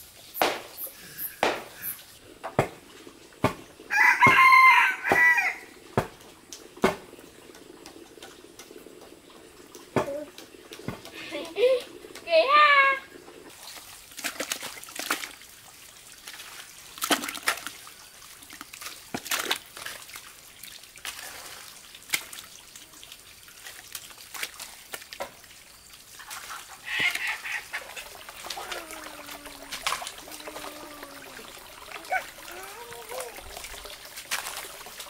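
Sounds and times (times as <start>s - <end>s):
water splashing and trickling: 0.0s - 35.0s.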